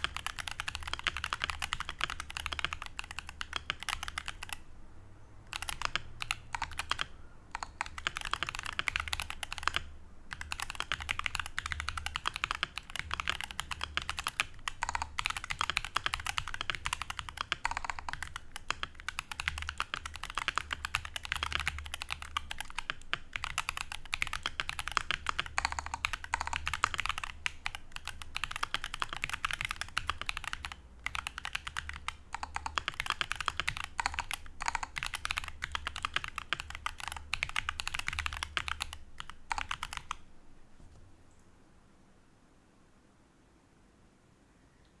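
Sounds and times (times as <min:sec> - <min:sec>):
fast typing on clicky keyboard: 0:00.0 - 0:04.6, 0:05.5 - 0:40.3.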